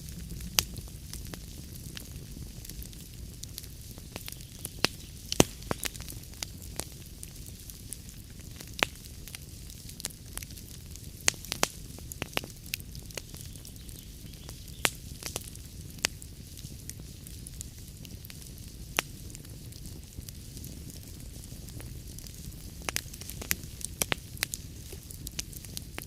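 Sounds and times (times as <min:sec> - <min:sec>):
logs crackling and popping: 0:00.0 - 0:26.0
wood fire burning: 0:00.0 - 0:26.0.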